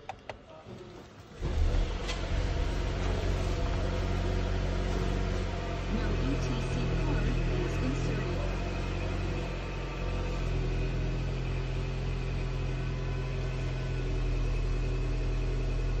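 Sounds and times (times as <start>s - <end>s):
car engine idling: 1.3s - 16.0s.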